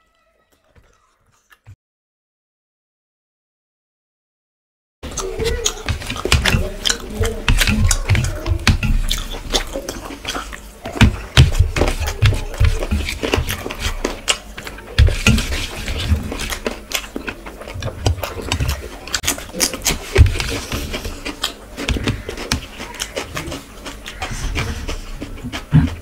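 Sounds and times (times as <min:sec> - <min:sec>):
mouth smacking and chewing: 0:05.1 - 0:26.0.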